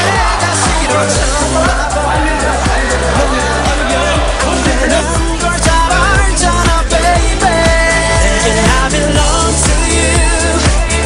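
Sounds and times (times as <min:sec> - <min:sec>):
pop song with steady beat: 0:00.0 - 0:11.0.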